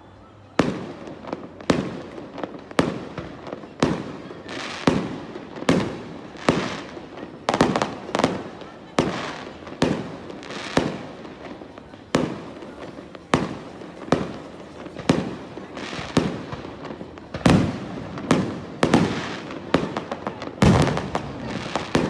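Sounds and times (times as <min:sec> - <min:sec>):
fireworks bursting with echoing bangs: 0:00.4 - 0:22.0.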